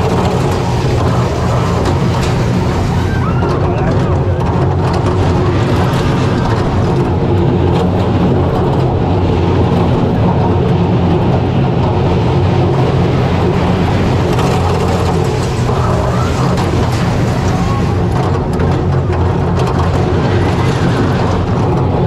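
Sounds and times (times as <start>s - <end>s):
roller coaster wheels rumbling: 0.0s - 22.0s.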